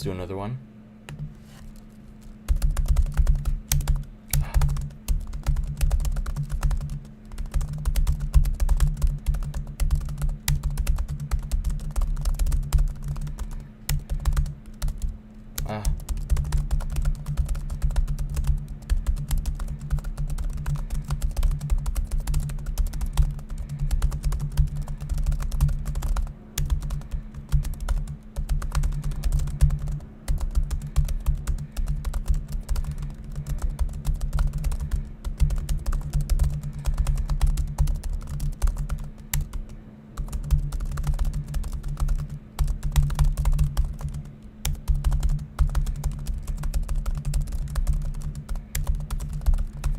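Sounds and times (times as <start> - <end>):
low steady hum: 0.0 - 49.9
fast laptop keyboard typing: 1.1 - 49.9.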